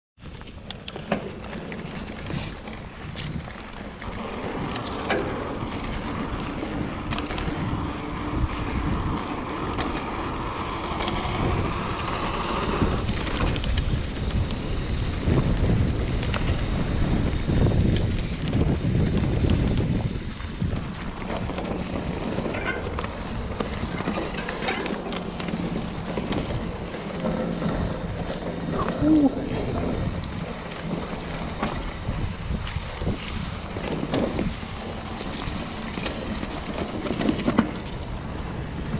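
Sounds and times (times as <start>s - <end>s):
bike clicks and rattles: 0.2s - 38.9s
bike tyres rumbling on dirt: 0.2s - 38.9s
wind noise on microphone: 0.2s - 38.9s.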